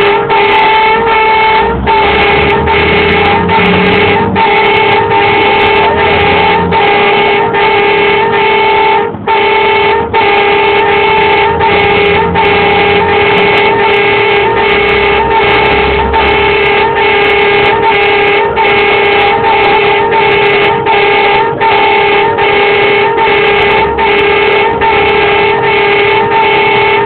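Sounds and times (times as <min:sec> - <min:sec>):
truck engine rumble: 0:00.0 - 0:27.0
truck horn sounding: 0:00.0 - 0:27.0.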